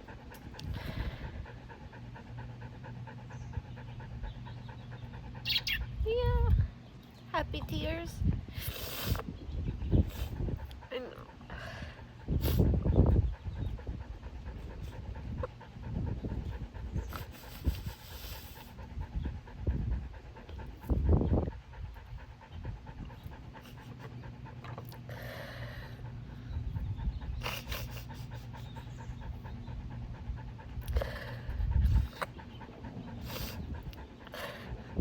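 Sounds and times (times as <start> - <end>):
dog panting: 0.0 - 35.0.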